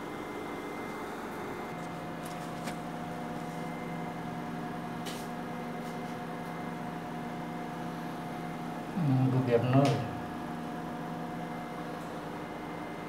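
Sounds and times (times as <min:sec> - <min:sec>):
elevator machinery hum: 0:00.0 - 0:13.0.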